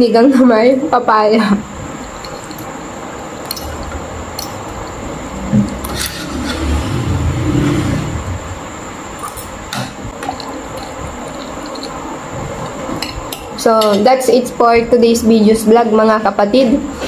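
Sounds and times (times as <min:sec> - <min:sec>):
room hiss: 0:00.0 - 0:17.0.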